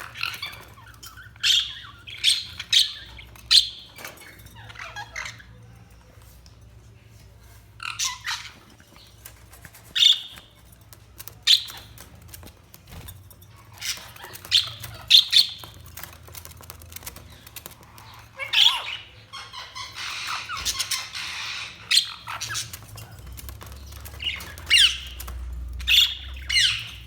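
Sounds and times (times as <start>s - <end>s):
budgies chirping and squawking: 0.0s - 27.0s.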